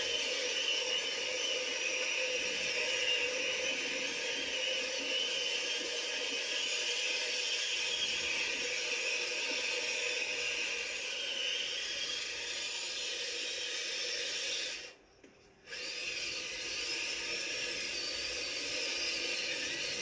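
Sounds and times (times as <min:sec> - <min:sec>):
hiss: 0:00.0 - 0:20.0
toy truck motor whine: 0:00.0 - 0:20.0.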